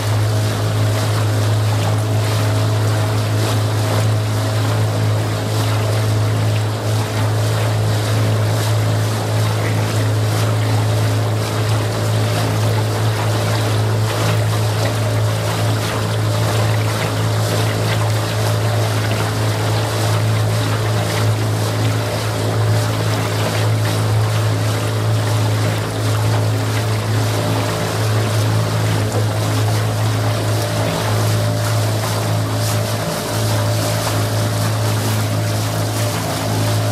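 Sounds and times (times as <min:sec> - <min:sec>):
outboard motor droning: 0:00.0 - 0:36.9
water splashing against hull: 0:00.0 - 0:36.9
wind: 0:00.0 - 0:36.9.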